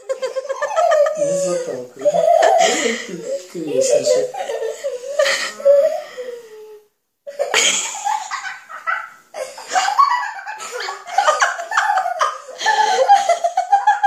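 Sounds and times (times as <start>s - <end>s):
children laughing: 0.0s - 6.1s, 7.3s - 14.0s.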